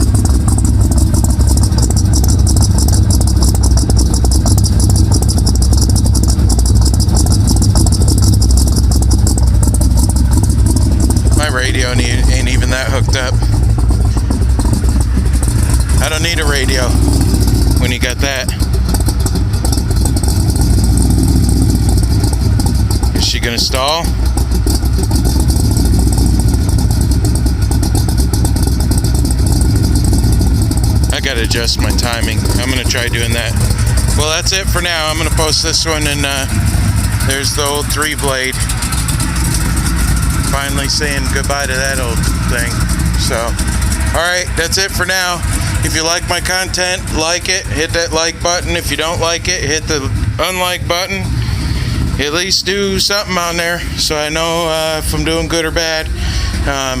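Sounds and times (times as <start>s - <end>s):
engine idling loudly: 0.0s - 57.0s
fast rattling tick: 0.0s - 57.0s.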